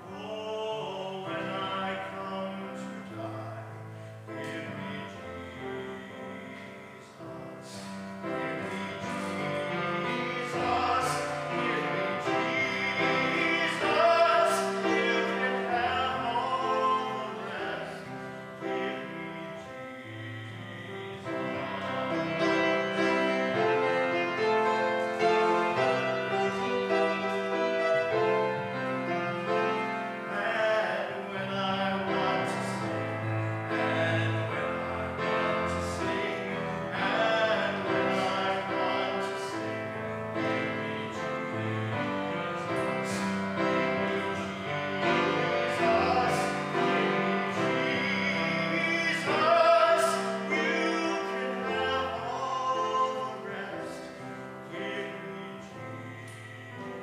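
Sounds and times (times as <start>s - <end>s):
grand piano: 0.0s - 57.0s
person singing with vibrato: 0.0s - 57.0s.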